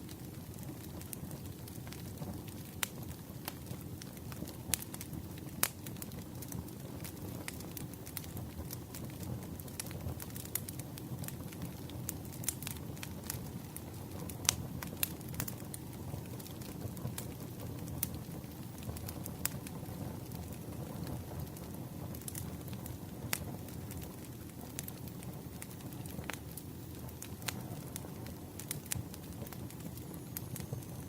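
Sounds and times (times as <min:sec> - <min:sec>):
campfire burning: 0:00.0 - 0:31.0
fire pops and snaps: 0:00.0 - 0:31.0.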